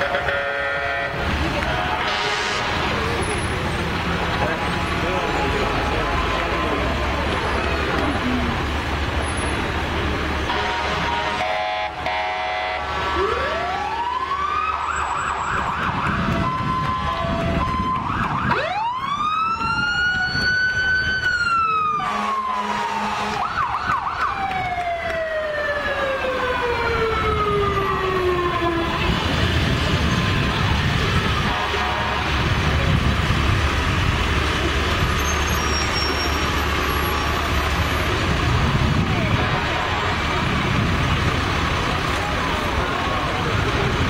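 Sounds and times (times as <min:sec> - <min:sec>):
emergency sirens wailing: 0:00.0 - 0:44.0
low rumble of truck engines: 0:00.0 - 0:44.0.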